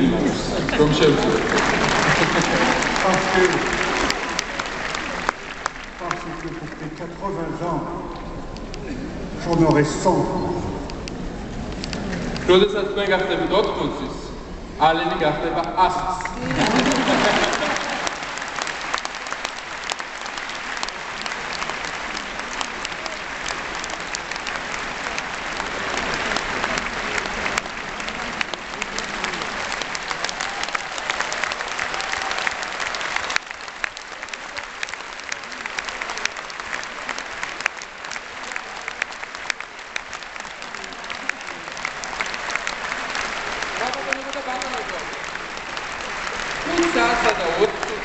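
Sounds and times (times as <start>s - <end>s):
audience applauding: 0.0s - 13.8s, 16.2s - 48.0s.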